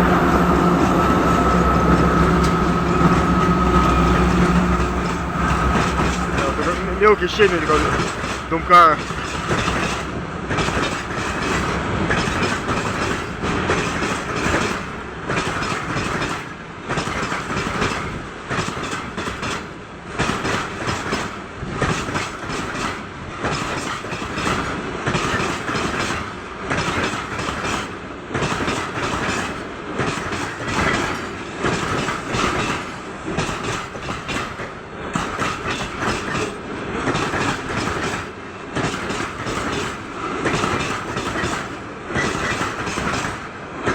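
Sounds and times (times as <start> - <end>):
freight train rolling slowly: 0.0 - 43.9
wheels clacking over rail joints: 0.0 - 43.9.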